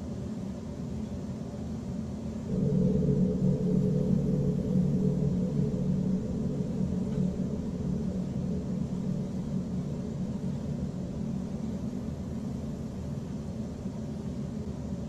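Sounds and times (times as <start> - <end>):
low rumbling drone: 2.4 - 15.0.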